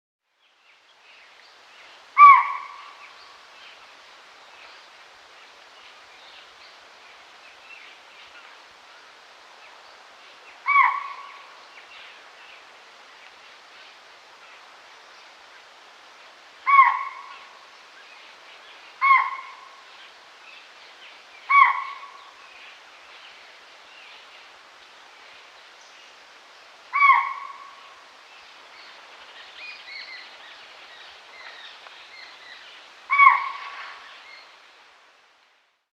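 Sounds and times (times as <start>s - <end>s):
faint background hiss: 0.2s - 35.9s.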